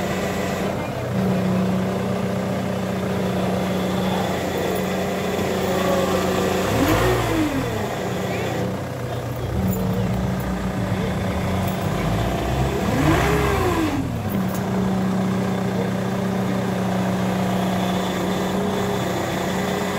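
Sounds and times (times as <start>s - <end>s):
car engine running: 0.0s - 19.9s
power steering pump whine: 0.0s - 19.9s.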